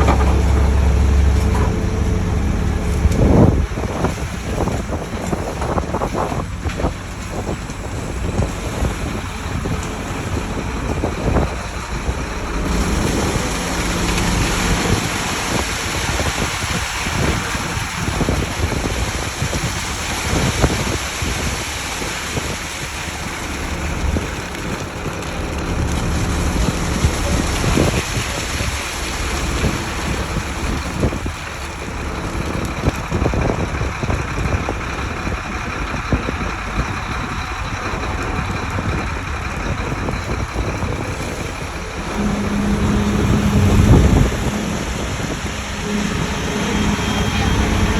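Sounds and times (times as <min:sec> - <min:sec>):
truck diesel engine running: 0:00.0 - 0:47.9
wind rumbling on microphone: 0:00.0 - 0:47.9.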